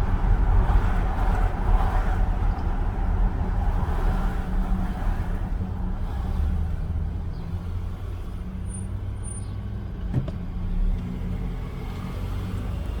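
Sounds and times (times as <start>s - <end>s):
car rumble while driving: 0.0s - 13.0s.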